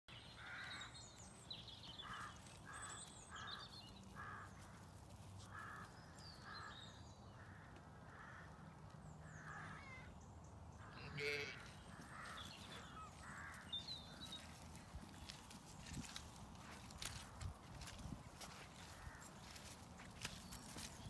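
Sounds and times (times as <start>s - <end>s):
small birds chirping: 0.1s - 21.0s
distant crows cawing: 0.4s - 1.0s, 2.0s - 10.1s, 10.8s - 16.2s, 17.1s - 20.9s.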